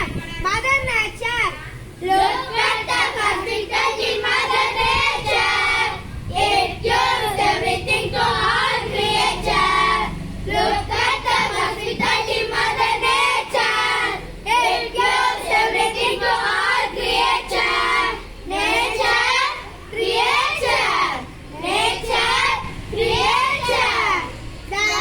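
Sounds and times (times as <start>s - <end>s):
children singing: 2.0s - 25.0s.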